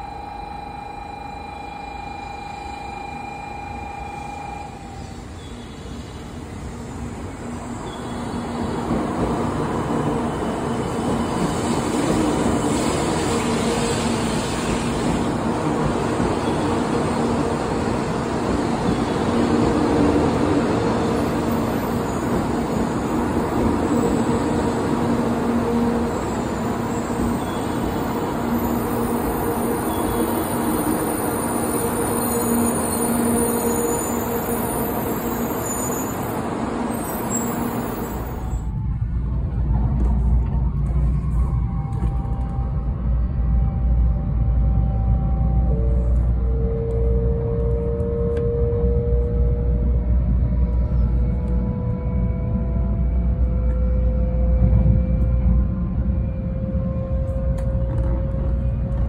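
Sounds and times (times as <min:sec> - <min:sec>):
train wheels rumbling on rail: 0:05.0 - 0:59.0.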